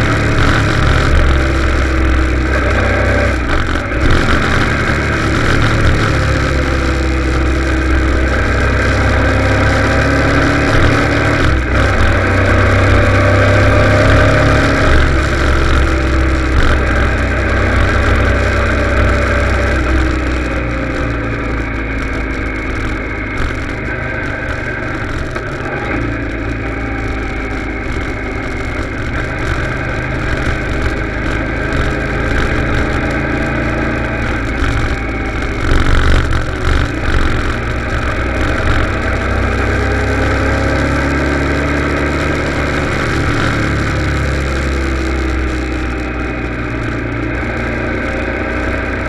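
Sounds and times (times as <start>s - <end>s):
motorcycle engine running: 0.0s - 49.0s
wind rumble on microphone: 0.0s - 49.0s.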